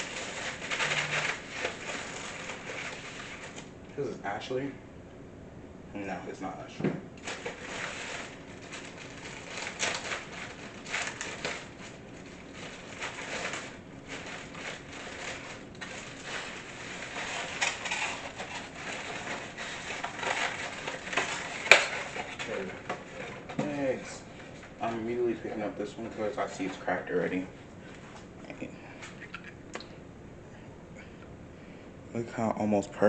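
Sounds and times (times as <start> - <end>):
kitchen items crinkling and scraping: 0.0 - 4.1, 7.2 - 29.6.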